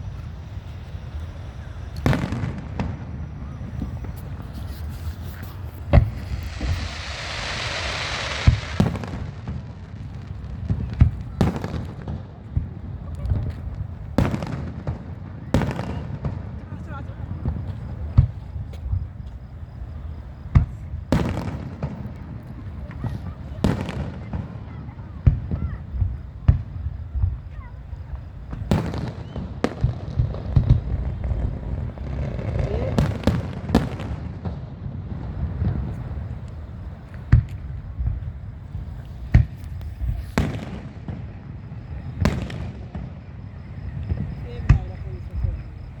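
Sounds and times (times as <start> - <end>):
fireworks bright hiss: 0.0 - 34.5, 35.1 - 46.0
fireworks deep bangs: 0.0 - 46.0.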